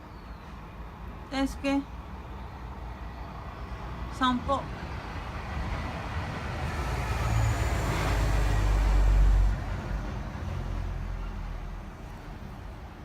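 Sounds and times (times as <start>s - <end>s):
vehicle passing by: 2.2s - 13.0s.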